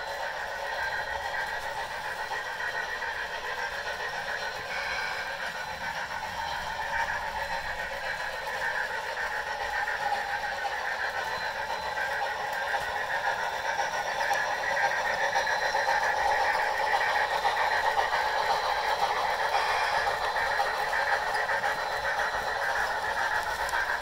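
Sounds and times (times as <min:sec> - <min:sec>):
model steam locomotive sounds: 0:00.0 - 0:24.0
wheels rolling on track: 0:00.0 - 0:24.0.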